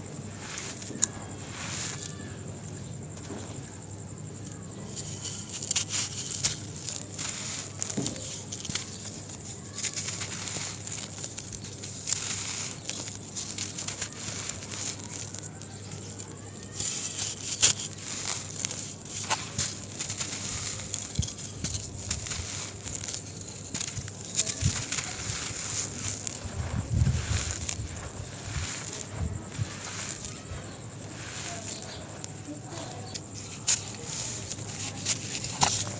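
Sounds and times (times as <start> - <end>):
gritty crunching of dry cement mix: 0.0 - 35.9.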